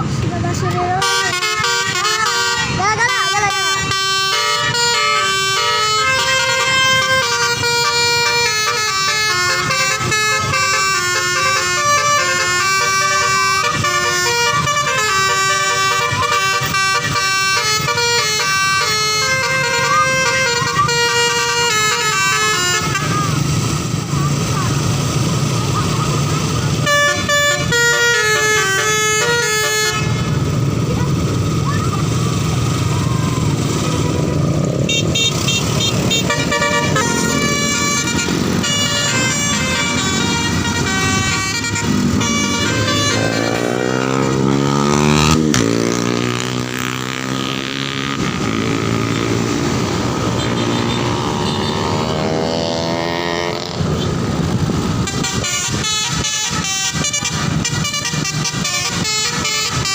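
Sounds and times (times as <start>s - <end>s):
multi-tone bus horn tune: 0.9s - 24.0s, 26.1s - 31.2s, 34.4s - 59.9s.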